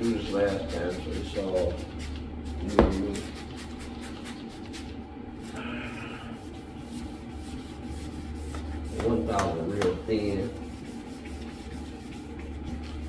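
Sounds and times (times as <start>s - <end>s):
sandpaper scratching plastic: 0.0s - 5.0s, 6.4s - 13.0s.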